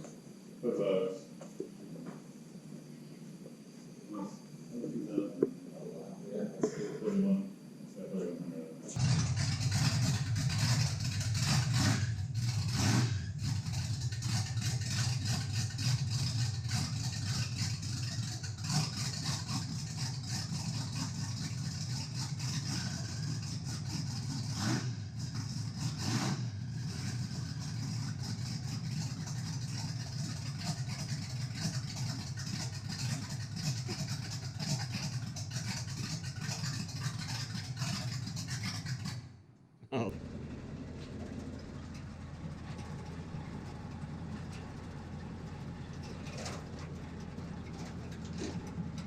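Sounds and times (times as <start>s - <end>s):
car engine drone: 0.0s - 49.0s.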